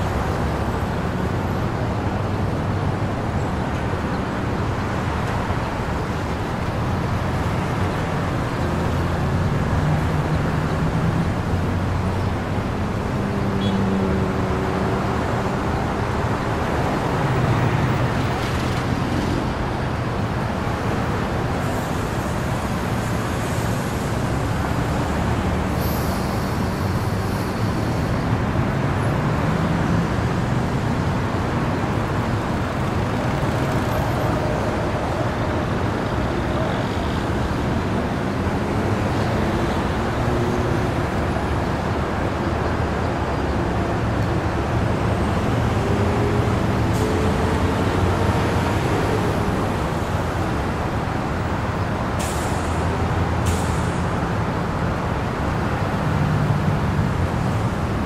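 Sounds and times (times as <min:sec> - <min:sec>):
car and bus engines passing: 0:00.0 - 0:58.0
steady traffic: 0:00.0 - 0:58.0.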